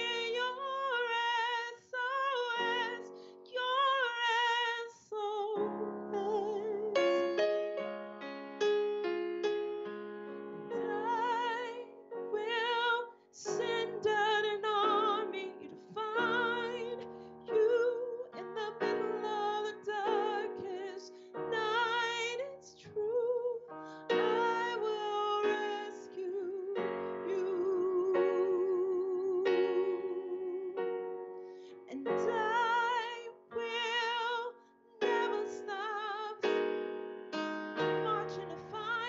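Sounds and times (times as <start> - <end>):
keyboard piano chords: 0.0 - 4.8, 5.4 - 39.0
woman singing with vibrato: 0.0 - 7.2, 10.7 - 30.8, 31.8 - 36.5, 37.9 - 39.0.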